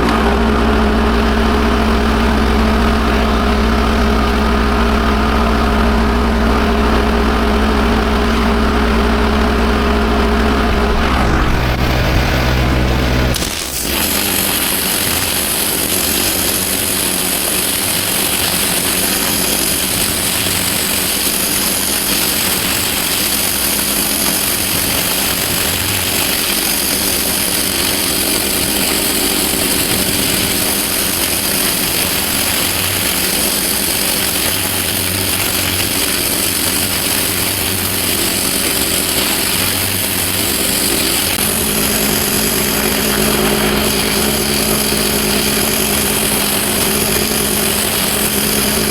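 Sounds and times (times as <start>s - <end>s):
pressure washer running: 0.0s - 48.9s
water jet hissing on paving: 0.0s - 48.9s.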